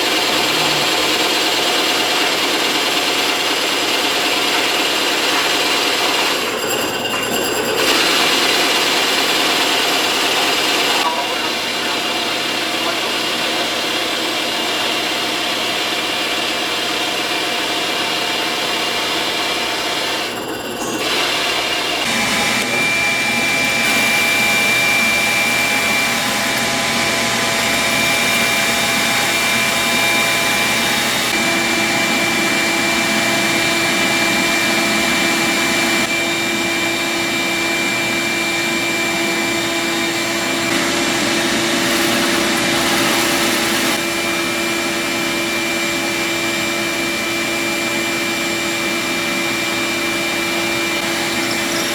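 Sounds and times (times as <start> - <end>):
hole saw cutting wood: 0.0 - 51.9.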